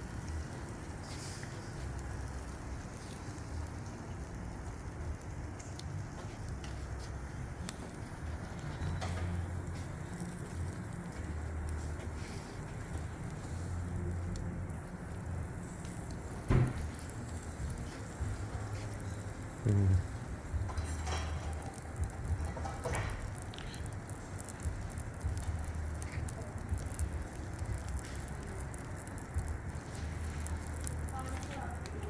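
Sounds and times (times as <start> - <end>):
charcoal crackling: 0.0 - 32.0
fish sizzling on a grill: 0.0 - 32.0.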